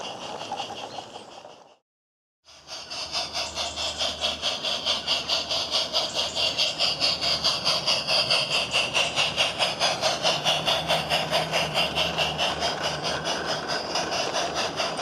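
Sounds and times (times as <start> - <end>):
electronic steam locomotive chuffing: 0.0 - 1.8, 2.4 - 15.0.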